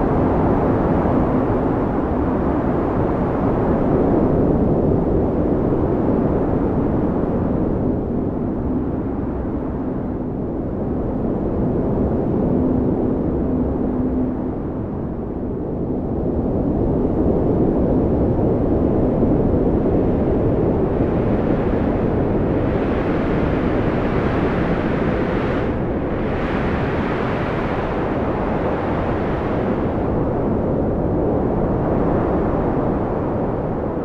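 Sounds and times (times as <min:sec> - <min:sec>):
strong wind blowing: 0:00.0 - 0:34.0.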